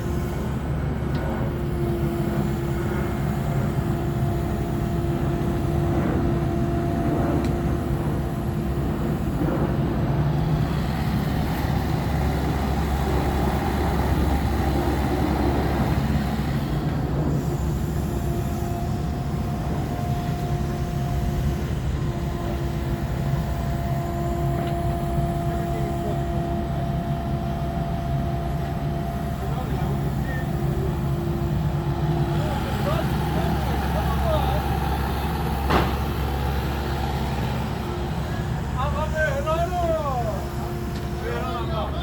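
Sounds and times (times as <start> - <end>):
excavator diesel engine running: 0.0 - 42.0
steady engine whine: 0.0 - 42.0.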